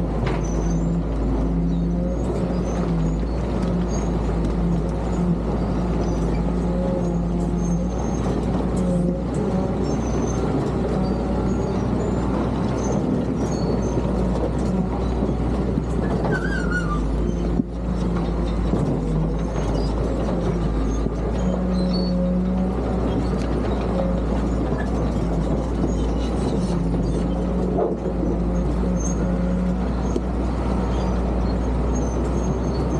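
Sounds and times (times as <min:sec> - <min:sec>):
bulldozer diesel engine running: 0:00.0 - 0:32.9.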